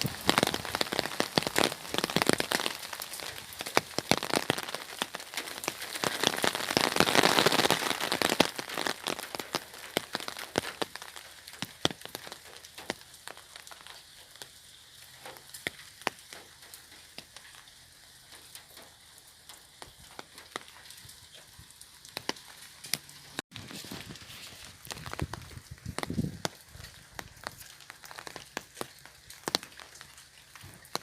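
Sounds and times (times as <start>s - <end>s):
rain pattering on an umbrella: 0.0s - 31.0s.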